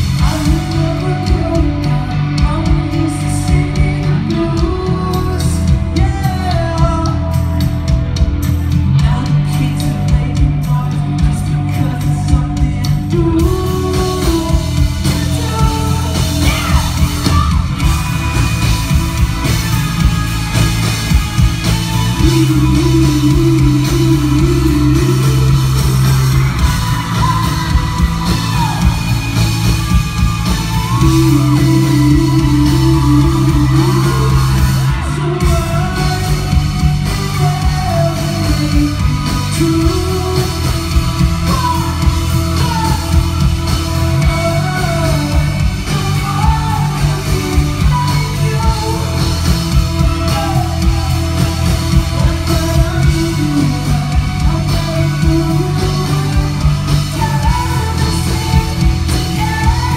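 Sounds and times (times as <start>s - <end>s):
live rock band: 0.0s - 59.9s
man singing: 0.0s - 59.9s.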